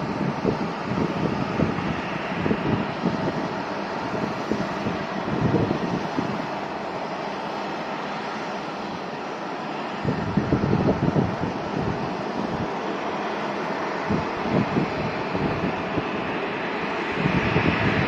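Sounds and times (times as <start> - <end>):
jet aircraft roar: 0.0 - 18.0
wind buffeting microphone: 0.0 - 18.0.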